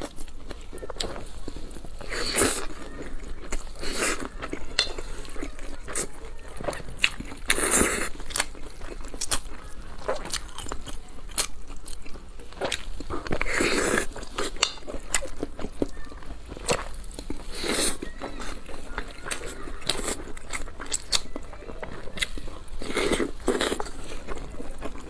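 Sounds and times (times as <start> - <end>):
chewing noodles: 0.0 - 25.0.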